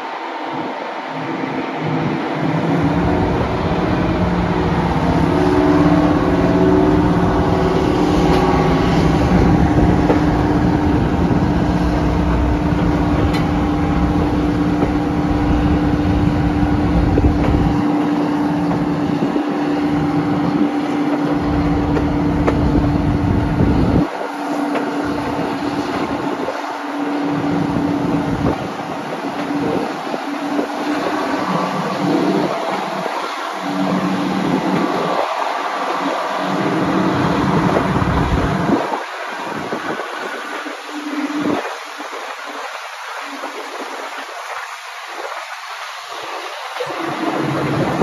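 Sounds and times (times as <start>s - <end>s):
diesel locomotive engines working hard: 0.0s - 48.0s
wind buffeting microphone: 0.0s - 48.0s.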